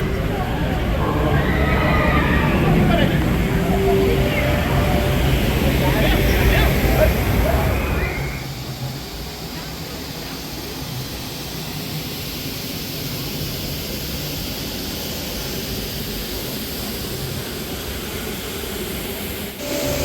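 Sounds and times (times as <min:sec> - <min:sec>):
roller coaster track roar: 0:00.0 - 0:20.0.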